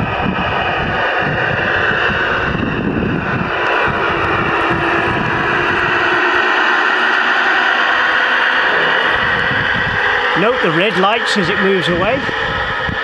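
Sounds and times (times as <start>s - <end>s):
droning diesel engine sound: 0.0s - 13.0s.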